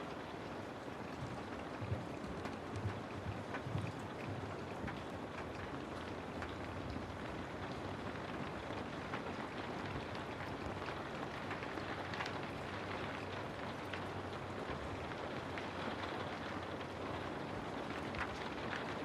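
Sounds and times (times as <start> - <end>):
steady rain: 0.0 - 19.0
raindrops ticking: 0.1 - 19.0.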